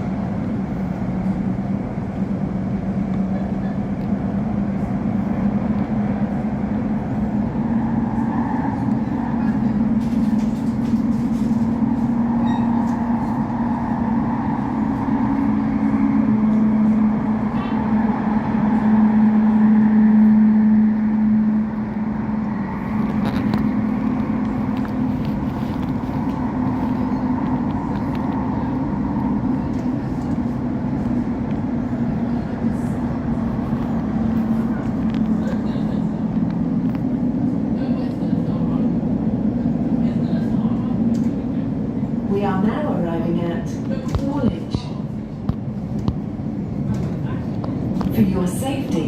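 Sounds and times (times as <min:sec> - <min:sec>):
train cabin rumble: 0:00.0 - 0:49.0.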